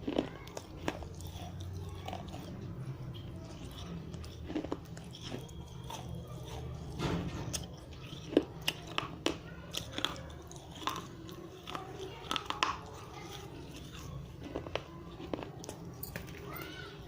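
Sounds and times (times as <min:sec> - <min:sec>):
crunching clay between teeth: 0:00.0 - 0:17.0.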